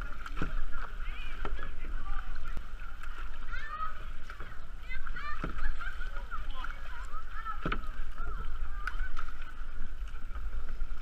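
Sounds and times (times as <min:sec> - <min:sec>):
paddle knocking on plastic hull: 0:00.0 - 0:09.4
low rumble of wind: 0:00.0 - 0:11.0
paddle dipping in water: 0:00.0 - 0:11.0.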